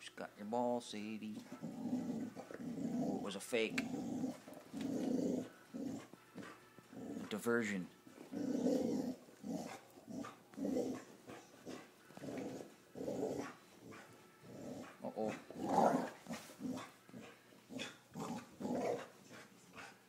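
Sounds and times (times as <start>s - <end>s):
dogs growling: 1.4s - 7.4s, 8.2s - 20.0s.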